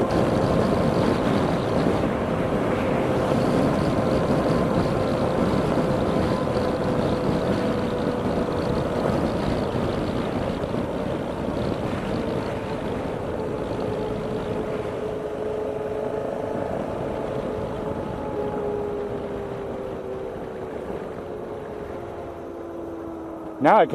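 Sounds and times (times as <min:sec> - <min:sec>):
road and engine rumble in car: 0:00.0 - 0:23.9.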